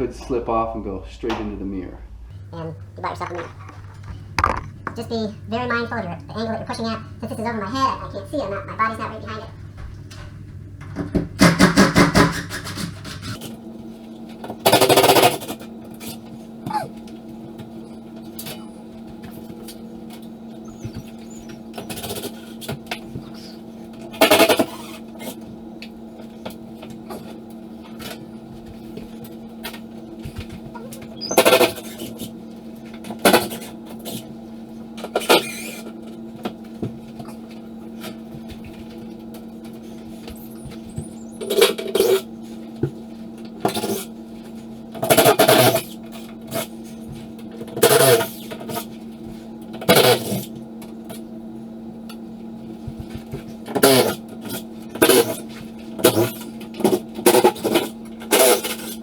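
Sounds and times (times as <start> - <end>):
steady low hum: 0.0 - 58.2.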